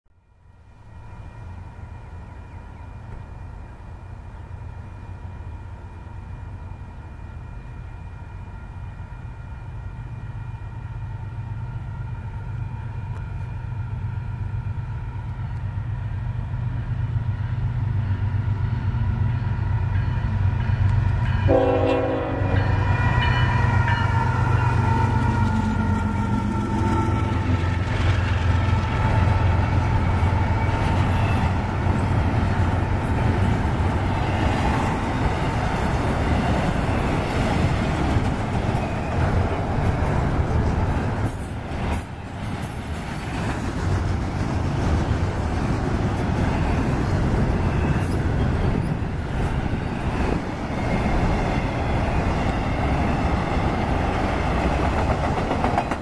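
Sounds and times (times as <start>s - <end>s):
diesel locomotive engine: 0.2s - 56.0s
train wheels rumbling on rails: 0.9s - 56.0s.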